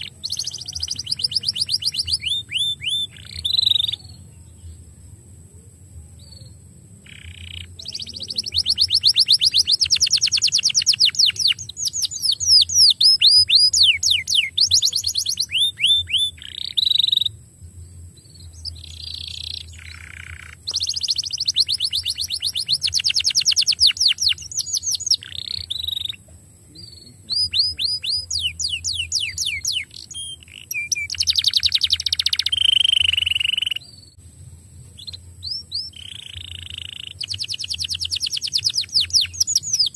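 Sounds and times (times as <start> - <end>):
canary singing trills: 0.0 - 4.9, 6.1 - 34.2, 34.8 - 39.9.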